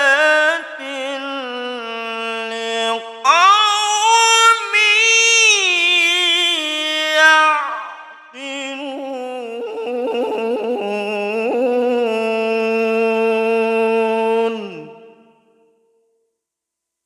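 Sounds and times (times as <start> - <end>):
man chanting melodically: 0.0 - 15.4.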